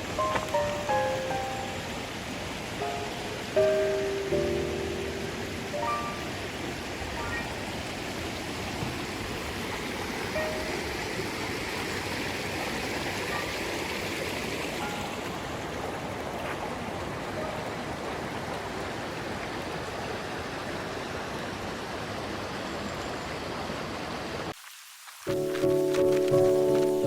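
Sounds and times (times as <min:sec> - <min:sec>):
stream flowing: 0:00.0 - 0:27.0.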